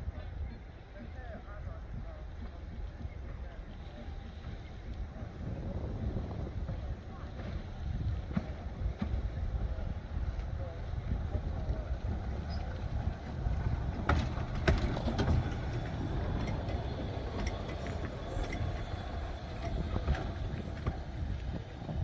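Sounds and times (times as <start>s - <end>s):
steam locomotive rumble: 0.0s - 22.0s
wind on microphone: 0.0s - 22.0s.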